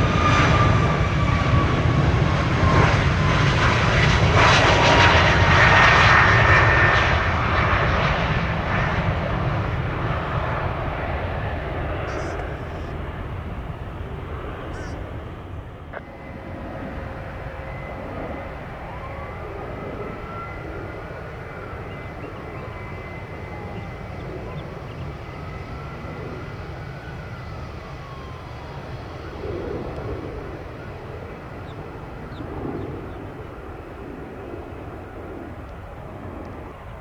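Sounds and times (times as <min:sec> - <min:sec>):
jet engine whine: 0:00.0 - 0:37.0
jet engines rumbling: 0:00.0 - 0:37.0.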